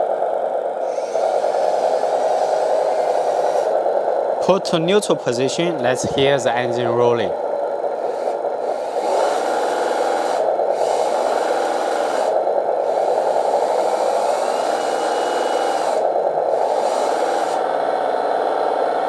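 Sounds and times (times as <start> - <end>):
simulated truck engine from speaker: 0.0 - 19.0.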